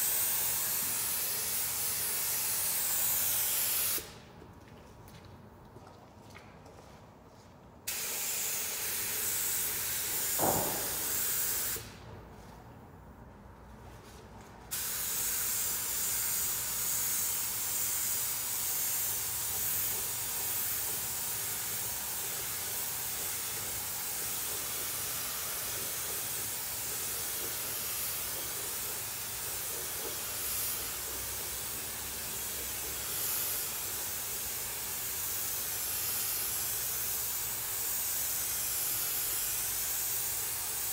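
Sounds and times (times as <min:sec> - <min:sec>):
paint spray gun hissing: 0:00.0 - 0:04.1, 0:07.9 - 0:11.9, 0:14.7 - 0:40.9.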